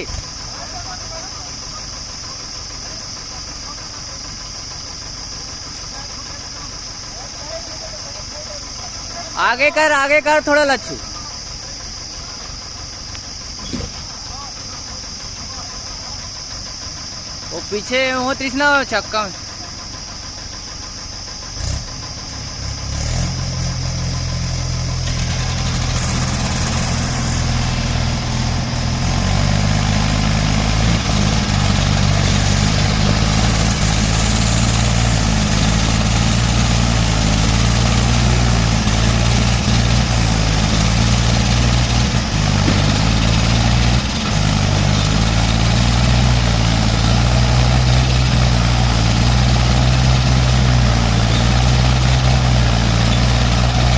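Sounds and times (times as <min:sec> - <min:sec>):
tractor engine running hard: 0:00.0 - 0:53.9.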